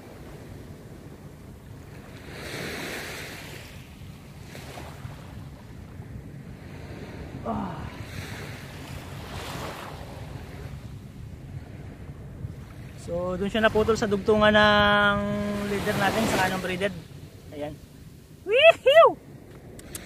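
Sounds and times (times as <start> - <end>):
small waves washing on sand: 0.0 - 20.0
wind rumble on microphone: 0.0 - 20.0.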